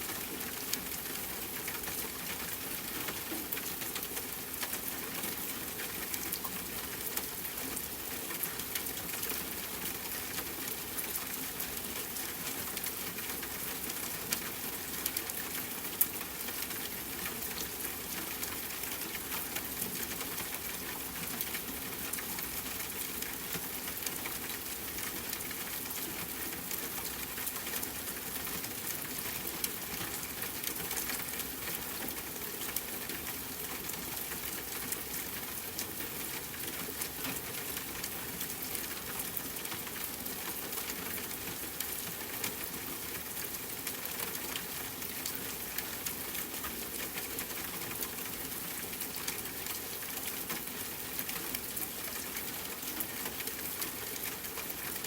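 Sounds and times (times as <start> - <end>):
rain on a tent: 0.0 - 55.0.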